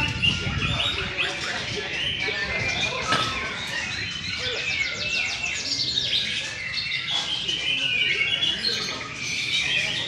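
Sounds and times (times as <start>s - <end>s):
birds singing whistled phrases: 0.0s - 10.0s.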